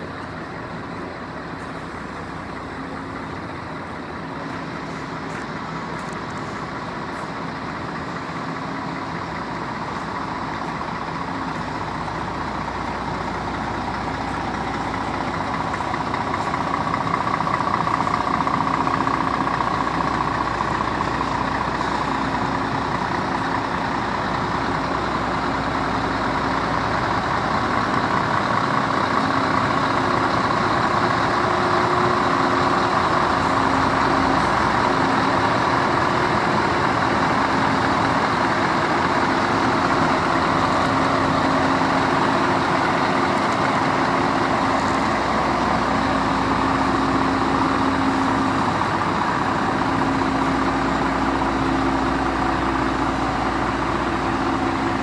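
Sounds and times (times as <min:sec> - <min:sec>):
truck diesel engines idling: 0:00.0 - 0:55.0.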